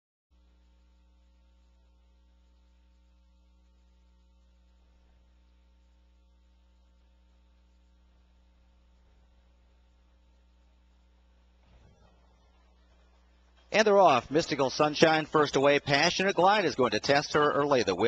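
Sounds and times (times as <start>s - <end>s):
faint low electrical hum: 0.3s - 18.0s.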